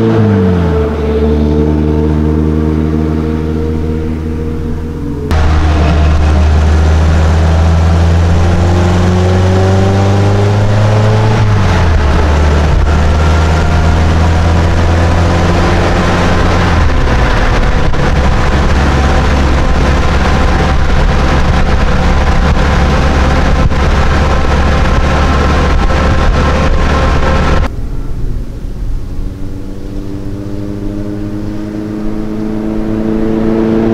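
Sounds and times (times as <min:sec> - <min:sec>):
car engine revving and shifting: 0:00.0 - 0:27.7, 0:29.0 - 0:33.9.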